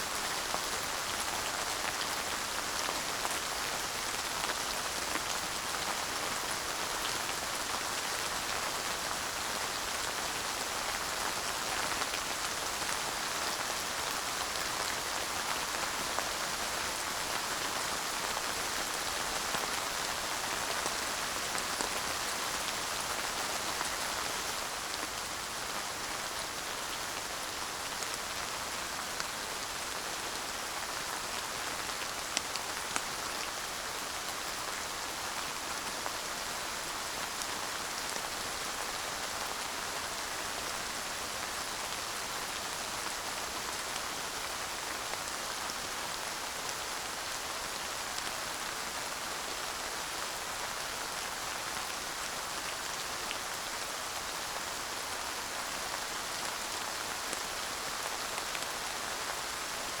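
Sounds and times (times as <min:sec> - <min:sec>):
light rain falling: 0:00.0 - 1:00.0.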